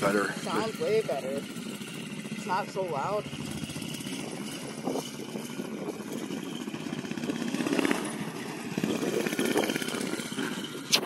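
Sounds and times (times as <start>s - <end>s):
kart engine running: 0.0s - 11.0s.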